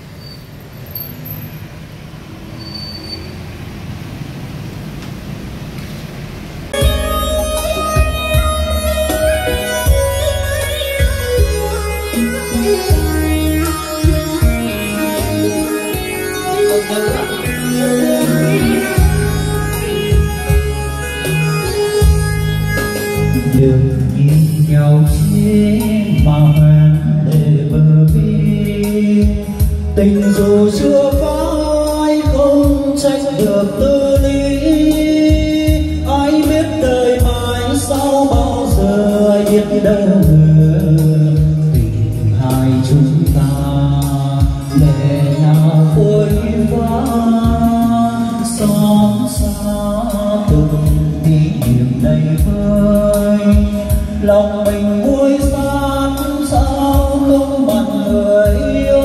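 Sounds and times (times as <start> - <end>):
song with singing over pa: 6.8 - 59.0.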